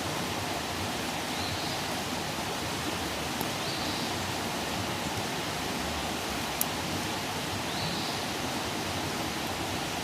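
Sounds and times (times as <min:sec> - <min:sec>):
campfire hissing: 0:00.0 - 0:10.0.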